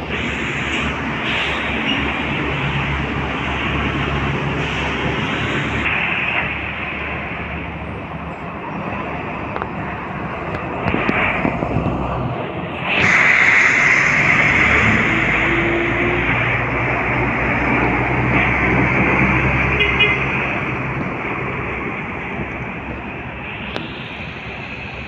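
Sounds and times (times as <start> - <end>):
bus engines rumbling: 0.0 - 25.0
traffic noise: 0.0 - 25.0.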